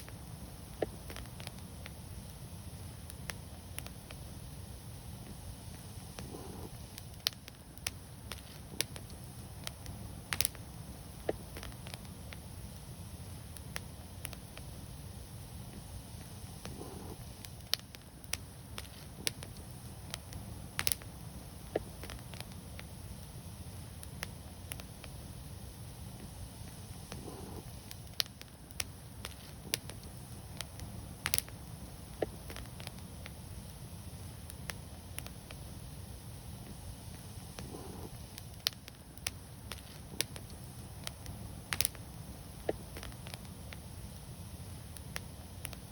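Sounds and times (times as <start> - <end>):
fire low rumble: 0.0 - 45.9
wood fire crackling: 0.0 - 45.9.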